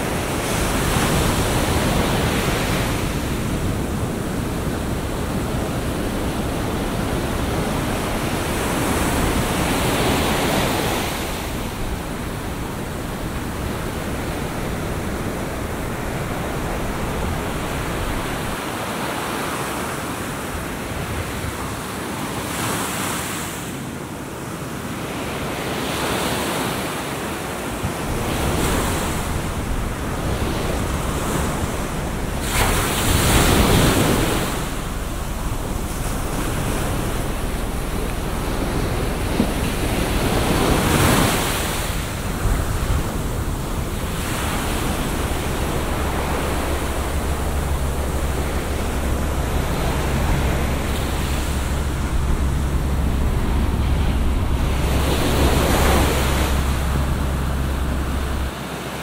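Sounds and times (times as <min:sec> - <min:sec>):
wind buffeting the microphone: 0:00.0 - 0:18.7, 0:27.6 - 0:58.6
surf breaking on a beach: 0:00.0 - 0:59.0.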